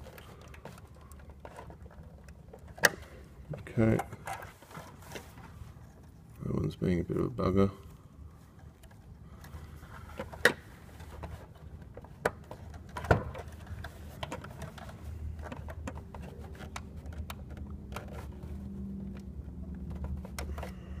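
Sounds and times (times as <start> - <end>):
clicks and taps handling wires: 0.0 - 6.5, 8.6 - 20.8
low steady hum: 0.0 - 21.0.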